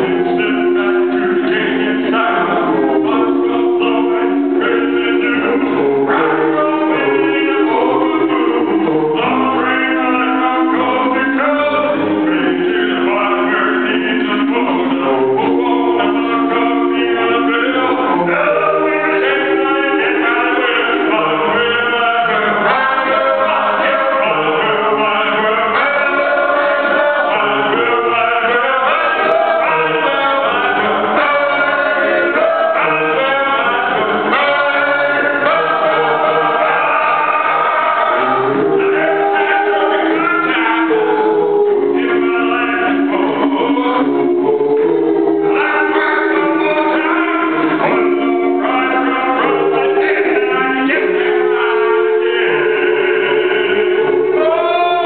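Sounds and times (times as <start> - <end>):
male a cappella harmony singing: 0.0 - 55.0.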